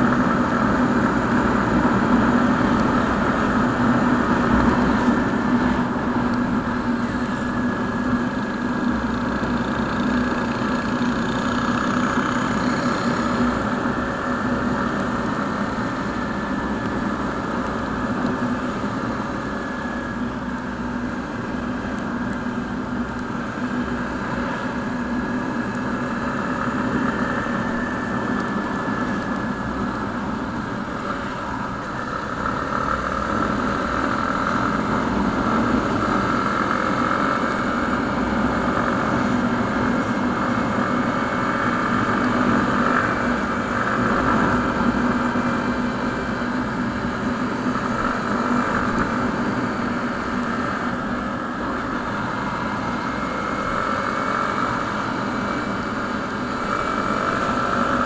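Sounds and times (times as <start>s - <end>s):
motorcycle engine running: 0.0s - 58.0s
road noise: 0.0s - 58.0s
wind: 0.0s - 58.0s.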